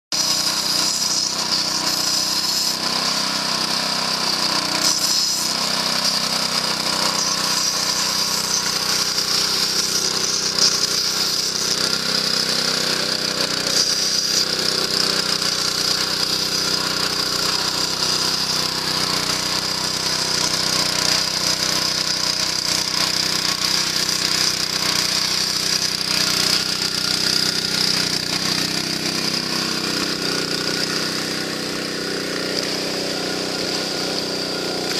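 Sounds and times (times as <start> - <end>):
engine-driven water pump running: 0.1 - 34.9.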